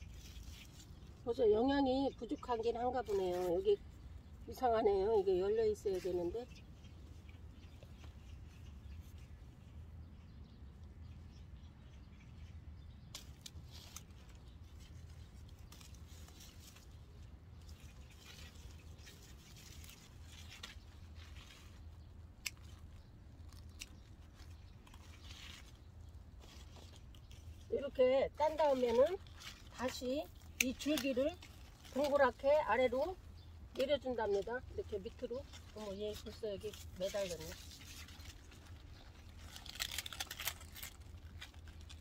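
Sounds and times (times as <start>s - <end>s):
rustling of leaves and vines: 0.0s - 42.0s.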